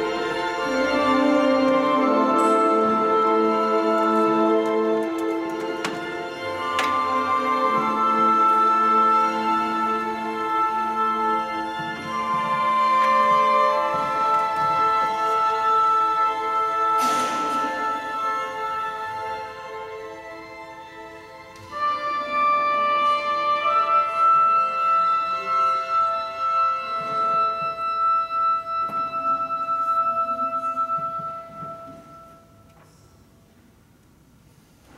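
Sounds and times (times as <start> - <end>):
chamber orchestra sustained chords: 0.0 - 33.2.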